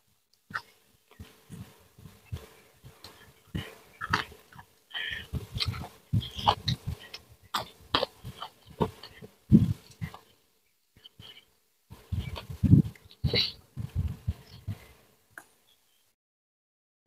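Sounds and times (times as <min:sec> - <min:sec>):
wet chewing and lip-smacking: 0:00.5 - 0:10.3, 0:11.0 - 0:15.5.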